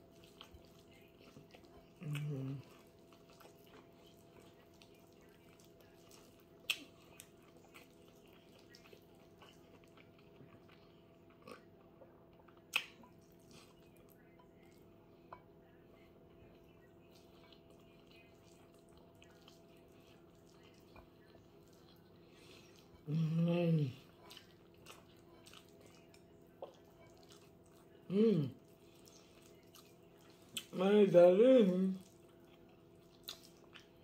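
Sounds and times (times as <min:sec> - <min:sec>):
person chewing food: 0:00.0 - 0:30.8, 0:32.0 - 0:34.0
steady low hum: 0:00.0 - 0:34.0.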